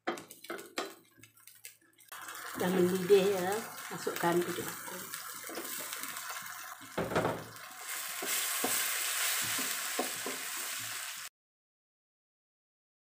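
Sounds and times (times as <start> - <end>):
sauce sizzling in a wok: 0.0 - 11.3.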